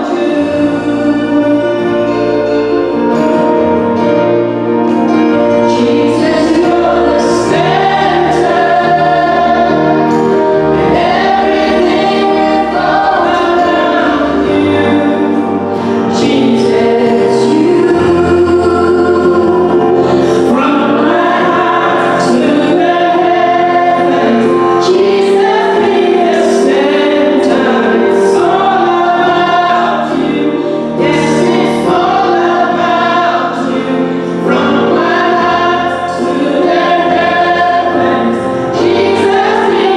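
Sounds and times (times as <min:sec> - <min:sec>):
choir singing gospel: 0:00.0 - 0:39.9
instrumental backing: 0:00.0 - 0:39.9.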